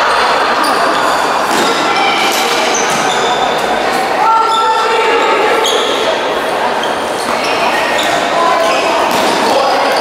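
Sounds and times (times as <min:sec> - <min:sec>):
hubbub of voices: 0:00.0 - 0:10.0.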